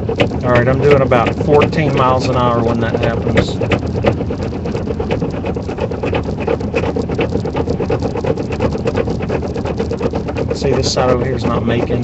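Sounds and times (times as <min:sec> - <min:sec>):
car rumble: 0:00.0 - 0:12.0
tire chains clacking in wheel well: 0:00.0 - 0:12.0.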